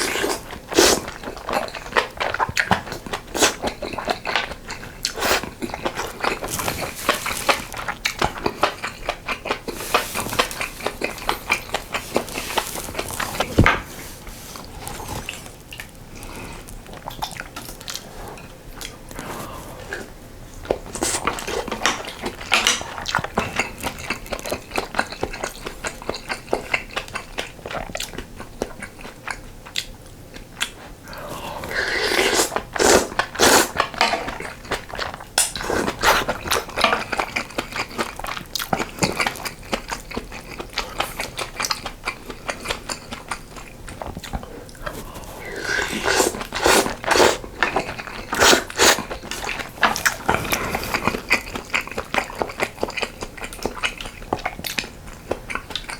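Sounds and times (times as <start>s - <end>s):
chewing and mouth smacks: 0.0s - 13.8s, 14.6s - 55.9s.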